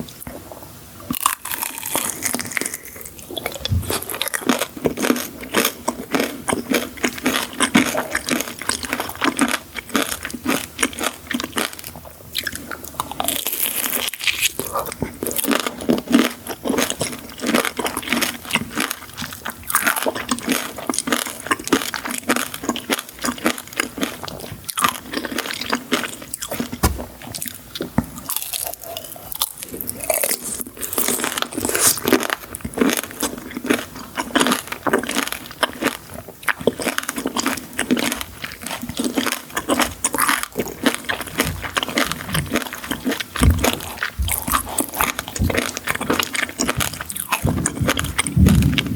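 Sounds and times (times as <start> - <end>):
crunching and chewing sweets: 0.0 - 48.9.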